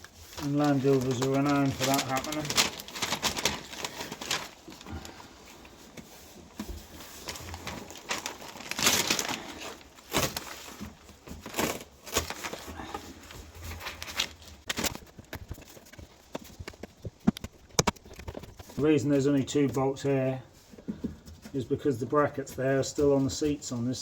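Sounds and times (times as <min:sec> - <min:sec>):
foam rustling and crinkling: 0:00.0 - 0:24.0.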